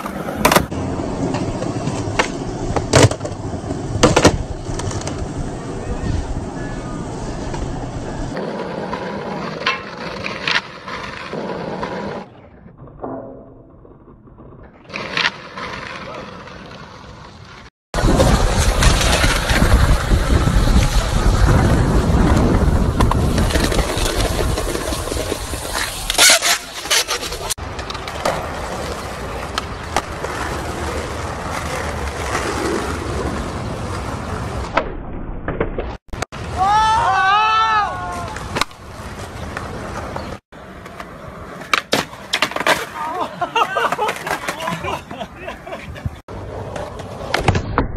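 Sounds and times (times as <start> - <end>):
skateboard wheels rolling on pavement: 0.0 - 47.9.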